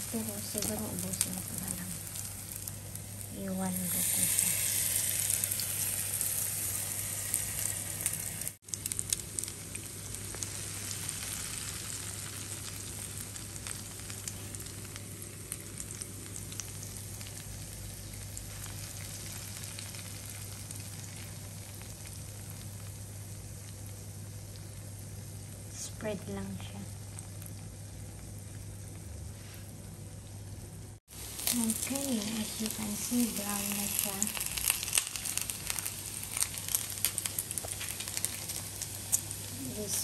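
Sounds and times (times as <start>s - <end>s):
oil crackles: 0.0s - 30.3s, 31.0s - 40.0s
batter sizzling in hot oil: 0.0s - 40.0s.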